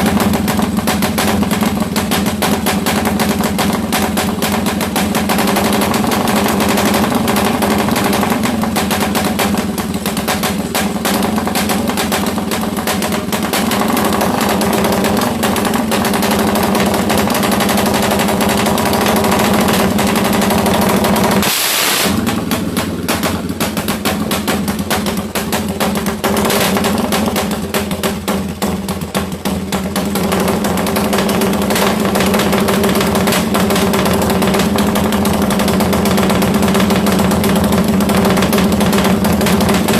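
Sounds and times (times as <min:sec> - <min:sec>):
motorcycle engine fast idle: 0:00.0 - 0:39.9.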